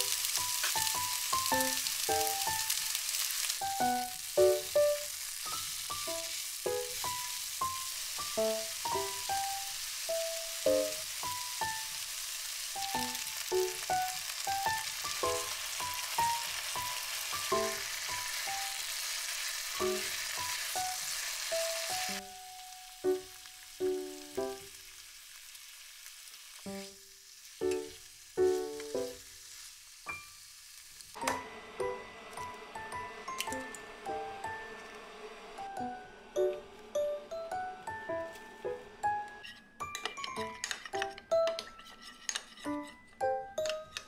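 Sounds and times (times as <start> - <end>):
light plucked background music: 0.0 - 3.0, 3.6 - 12.0, 12.8 - 18.9, 19.8 - 24.7, 27.6 - 29.2, 31.2 - 44.0
vegetables sizzling in a pan: 0.0 - 39.3.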